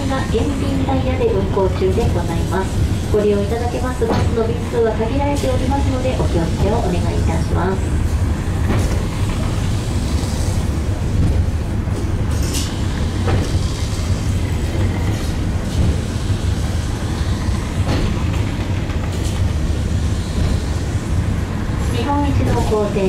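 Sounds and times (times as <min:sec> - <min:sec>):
funicular car rumbling: 0:00.0 - 0:23.0
rail clacks: 0:00.0 - 0:23.0.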